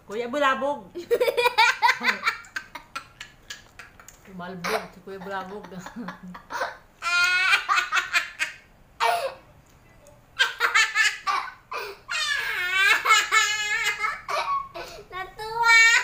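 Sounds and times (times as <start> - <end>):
young child laughing: 1.0 - 9.4, 10.4 - 15.0.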